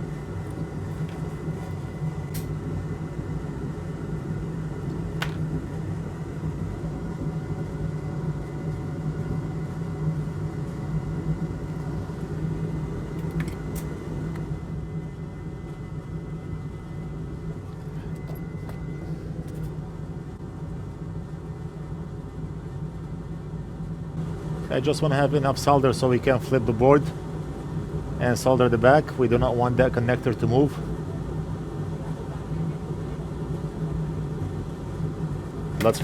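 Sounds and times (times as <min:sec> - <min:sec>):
faint high whine: 0:00.0 - 0:36.0
fan whirring hum: 0:00.0 - 0:36.0.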